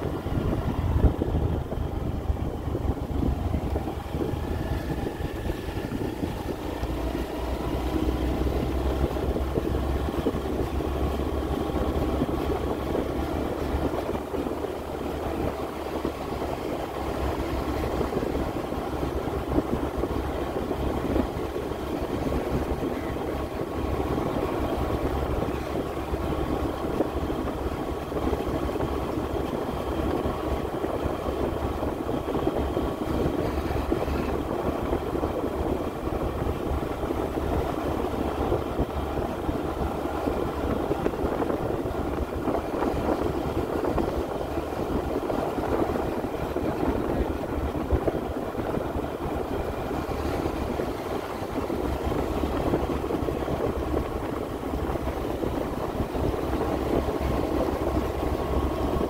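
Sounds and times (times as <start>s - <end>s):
road noise: 0.0s - 59.0s
vehicle engine running: 0.0s - 59.0s.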